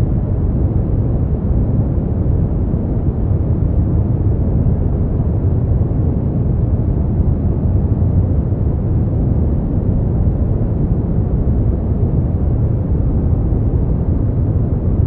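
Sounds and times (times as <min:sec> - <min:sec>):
deep steady white noise: 0:00.0 - 0:15.0.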